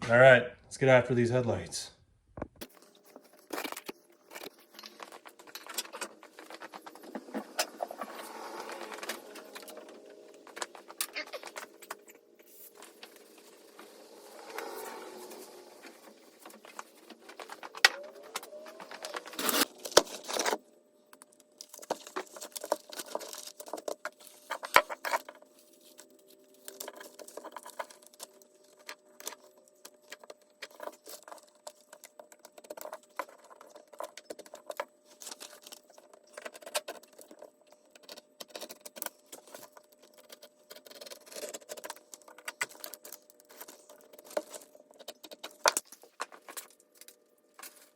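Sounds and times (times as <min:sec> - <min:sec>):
faint steady hum: 0:00.0 - 0:47.9
tint film crinkling and clicking: 0:02.6 - 0:47.9.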